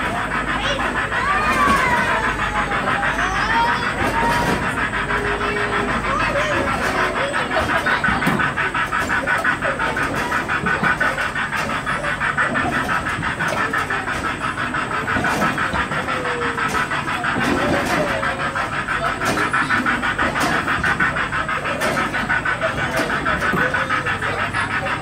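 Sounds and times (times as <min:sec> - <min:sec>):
carousel drive chugging: 0:00.0 - 0:25.0.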